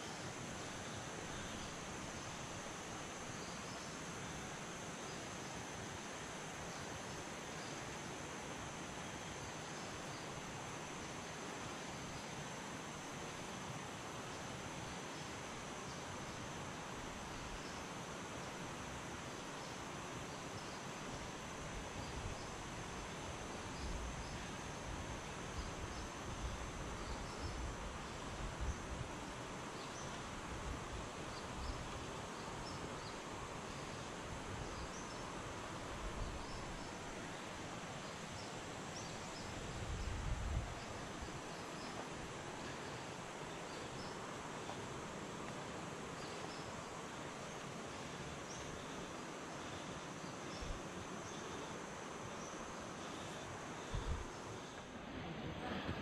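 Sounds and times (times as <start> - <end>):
high insect chirps: 0.0 - 12.8, 14.3 - 54.9
steady even hiss: 0.0 - 56.0.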